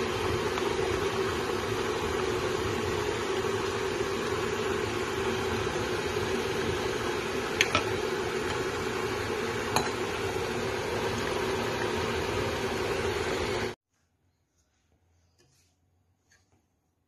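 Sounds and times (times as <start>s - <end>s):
sauce bubbling in a pot: 0.0s - 13.8s.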